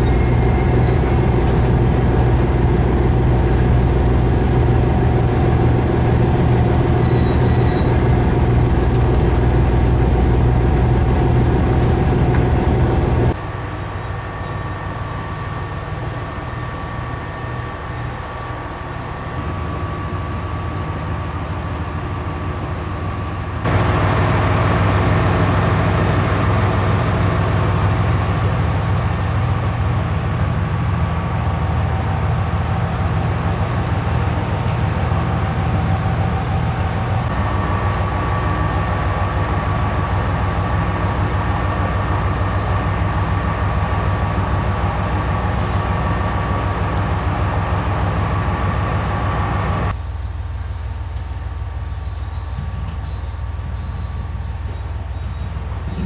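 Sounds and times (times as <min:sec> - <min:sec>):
rail rumble: 0:00.0 - 0:13.7, 0:23.2 - 0:56.0
diesel railcar engine drone: 0:00.0 - 0:56.0.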